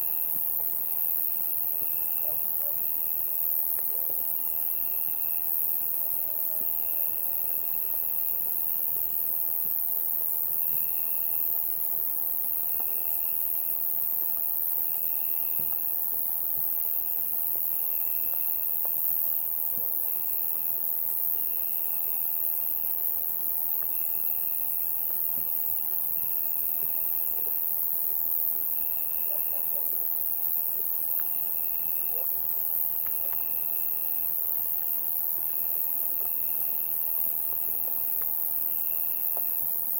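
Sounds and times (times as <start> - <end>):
cricket-like trill: 0.0 - 11.8, 12.4 - 39.9
insect hiss: 0.0 - 39.9.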